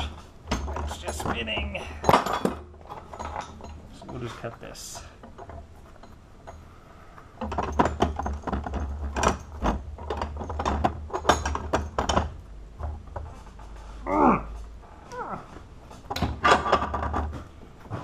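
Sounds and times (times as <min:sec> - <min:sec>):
metal clanking and knocking: 0:00.0 - 0:06.7, 0:07.3 - 0:14.8, 0:15.8 - 0:18.0.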